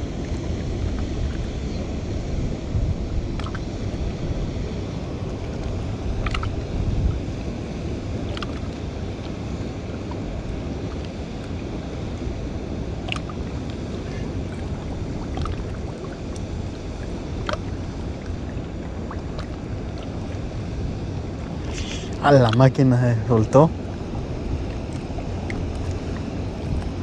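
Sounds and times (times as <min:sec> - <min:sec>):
moving water: 0:00.0 - 0:27.0
wind buffeting microphone: 0:00.0 - 0:27.0.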